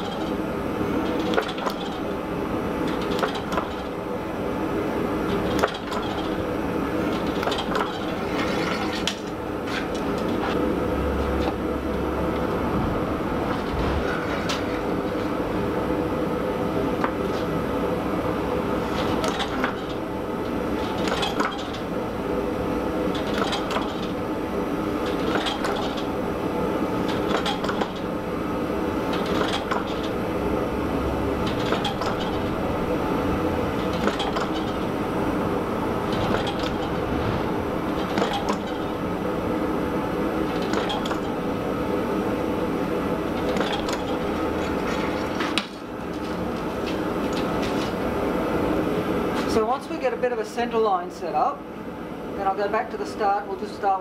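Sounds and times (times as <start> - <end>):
motor hum: 0.0 - 48.8.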